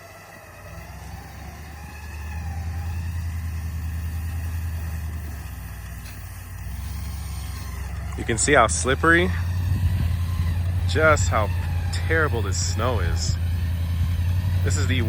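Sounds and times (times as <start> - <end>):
faint wavering whine: 0.0 - 15.0
off-road vehicle engine revving: 0.0 - 15.0.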